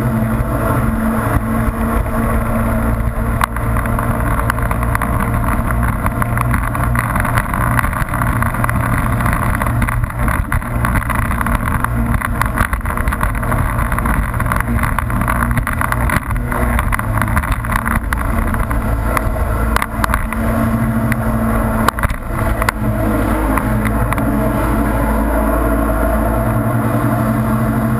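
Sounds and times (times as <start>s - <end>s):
jet ski engine: 0.0s - 27.9s.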